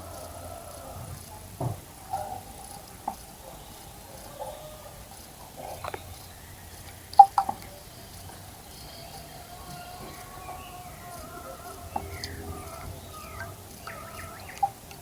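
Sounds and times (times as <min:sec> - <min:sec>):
birds splashing in water: 0:00.0 - 0:15.0.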